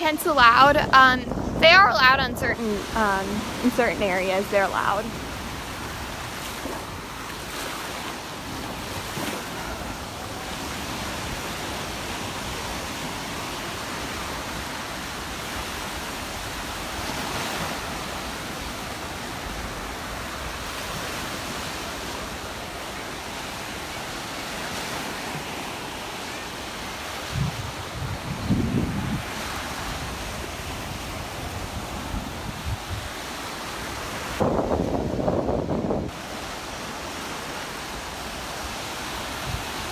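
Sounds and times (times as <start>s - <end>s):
surf washing onto beach: 0.0s - 39.9s
wind on microphone: 0.0s - 39.9s.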